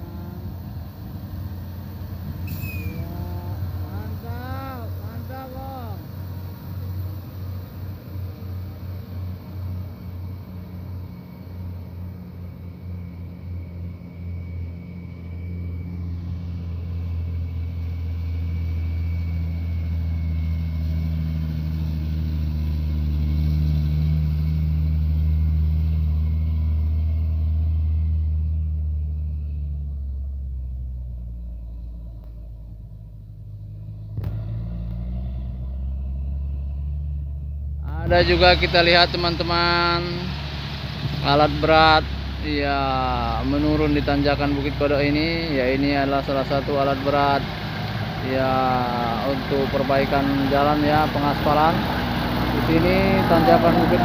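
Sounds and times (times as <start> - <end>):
tanker truck passing: 0.0 - 54.0
truck diesel engines rumbling: 0.0 - 54.0.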